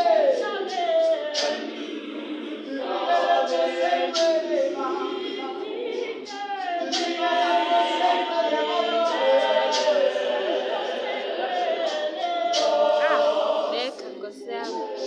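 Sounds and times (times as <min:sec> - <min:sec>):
mixed choir singing a cappella: 0:00.0 - 0:15.0.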